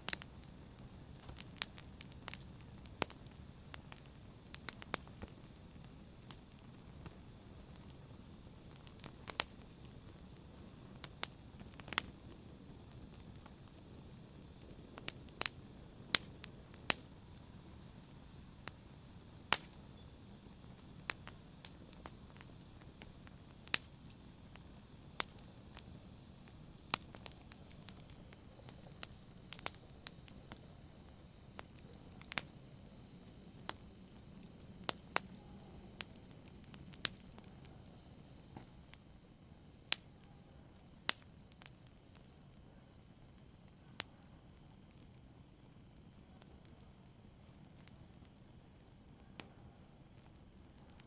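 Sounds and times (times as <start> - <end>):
fire hissing: 0.0 - 51.0
wood fire crackling: 0.0 - 51.0.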